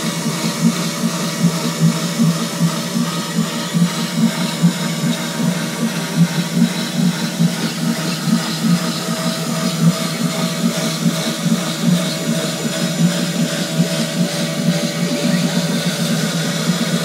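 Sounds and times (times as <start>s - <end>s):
router cutting wood: 0.0s - 17.0s.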